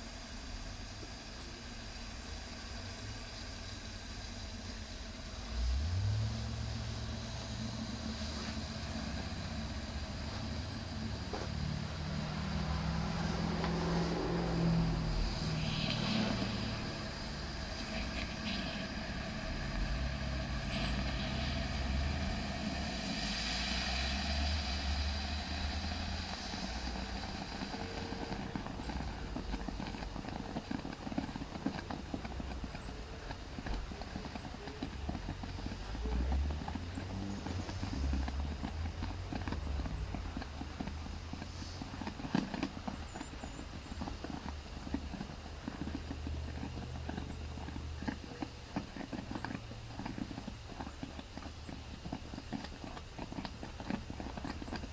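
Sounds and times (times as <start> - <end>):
low machine hum: 0.0 - 54.9.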